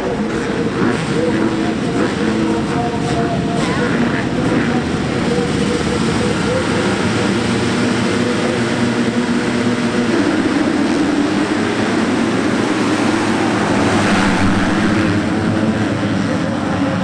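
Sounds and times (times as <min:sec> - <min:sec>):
motocross bikes revving at full throttle: 0:00.0 - 0:17.0.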